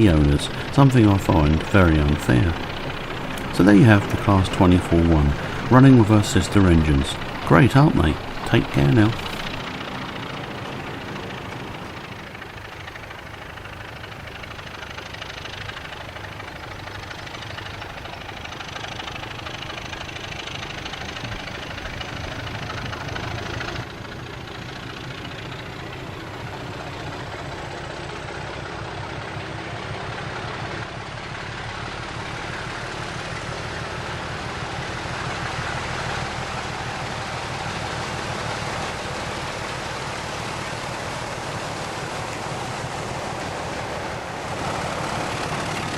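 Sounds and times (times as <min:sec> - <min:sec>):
model locomotives running on track: 0:00.0 - 0:45.9.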